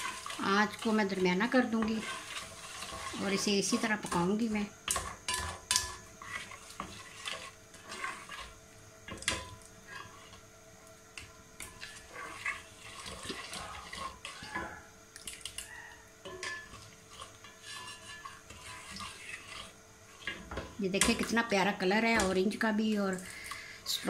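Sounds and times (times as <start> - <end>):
ladle knocking and scraping pot: 0.0 - 10.4, 11.2 - 14.8, 16.2 - 22.5
ladle stirring thick mixture: 0.0 - 10.4, 11.6 - 24.0.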